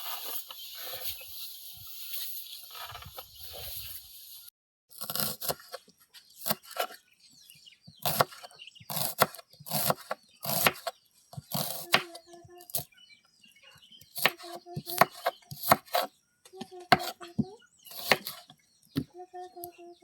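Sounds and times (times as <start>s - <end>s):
small birds chirping: 0.0s - 4.5s, 5.4s - 20.0s.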